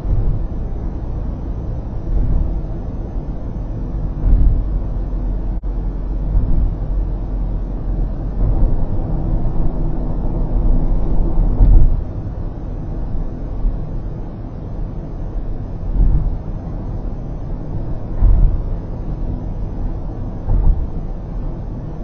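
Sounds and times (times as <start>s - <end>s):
car road noise rumble: 0.0s - 22.0s
low bump: 0.0s - 22.0s.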